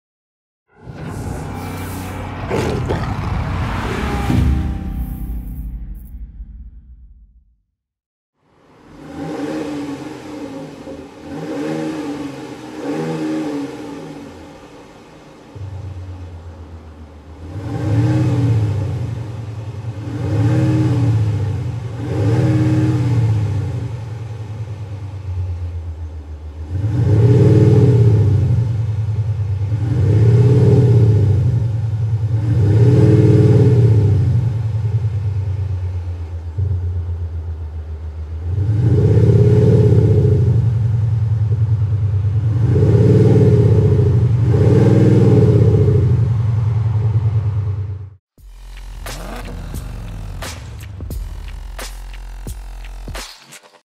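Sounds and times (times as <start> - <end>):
car engine idling and revving: 8.4 - 53.8.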